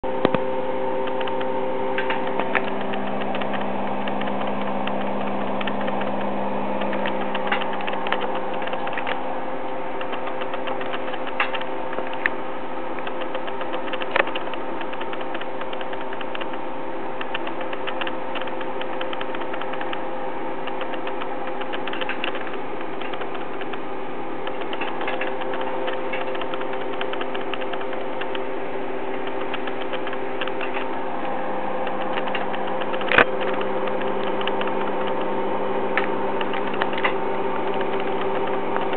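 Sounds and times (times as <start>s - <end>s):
electric motor humming: 0.0s - 38.9s
sharp ticks: 1.0s - 9.2s, 10.0s - 12.4s, 13.0s - 16.6s, 17.2s - 20.0s, 20.6s - 23.8s, 24.4s - 28.5s, 29.2s - 35.4s, 36.0s - 38.9s.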